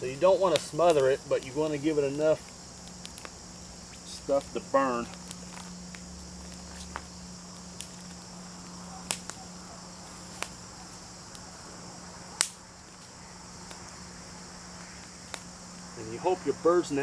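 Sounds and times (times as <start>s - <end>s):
insects chirring: 0.0s - 17.0s
kindling twigs snapping in fire: 0.0s - 17.0s.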